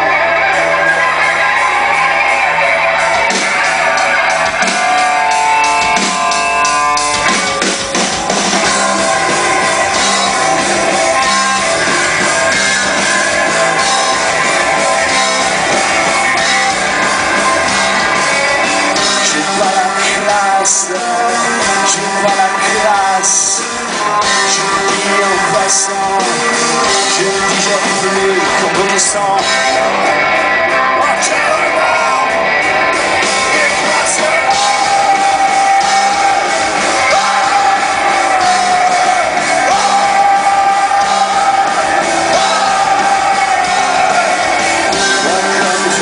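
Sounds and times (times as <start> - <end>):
drum kit: 0.0 - 46.0
electric guitars: 0.0 - 46.0.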